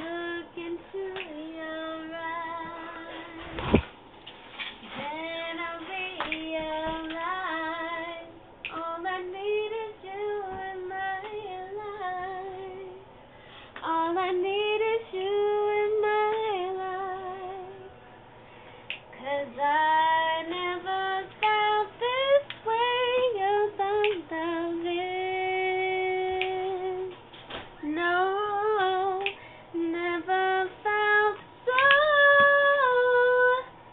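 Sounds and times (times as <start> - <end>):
woman singing unaccompanied: 0.0 - 3.6, 4.8 - 13.1, 13.8 - 18.0, 19.1 - 27.2, 27.8 - 33.8.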